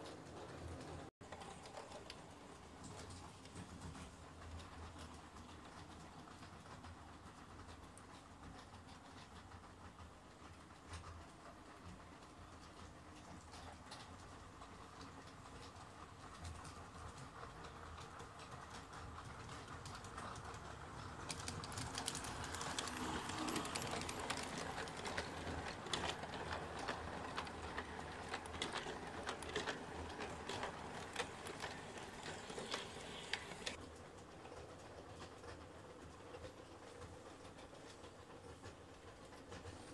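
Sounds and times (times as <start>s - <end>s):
model train wheels clicking on rails: 0.0s - 39.9s.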